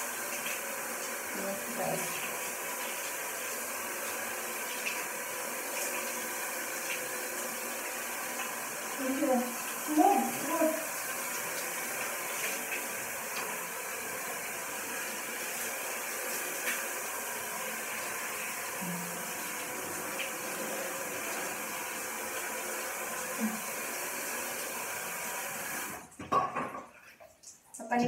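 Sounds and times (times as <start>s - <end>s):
water spraying from shower head: 0.0s - 26.2s.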